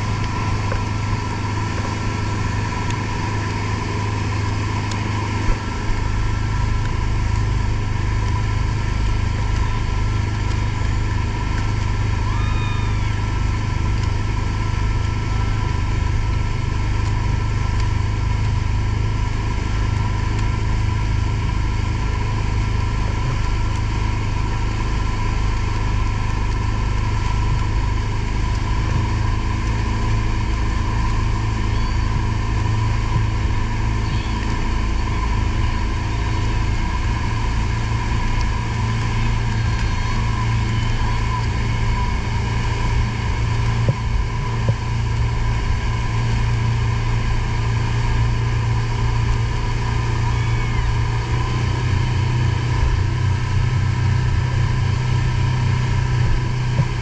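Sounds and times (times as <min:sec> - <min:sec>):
outboard motor running: 0:00.0 - 0:57.0
water rushing in wake: 0:00.0 - 0:57.0.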